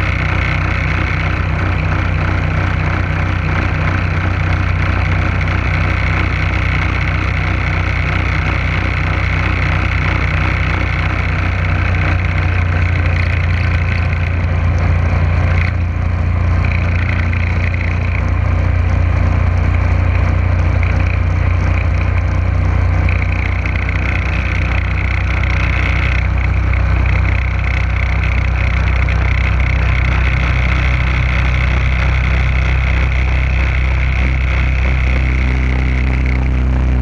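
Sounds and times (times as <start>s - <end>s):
boat motor drone: 0.0s - 37.0s.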